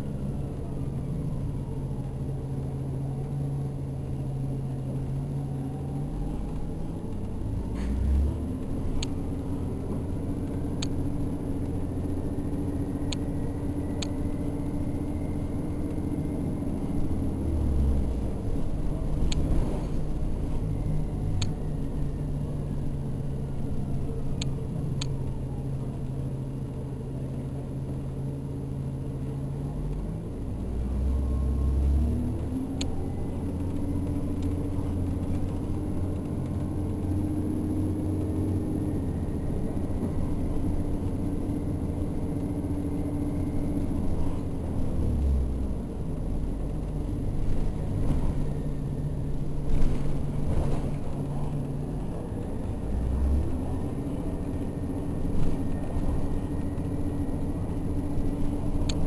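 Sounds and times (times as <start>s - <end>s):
bus drive hum with whine: 0.0s - 59.0s.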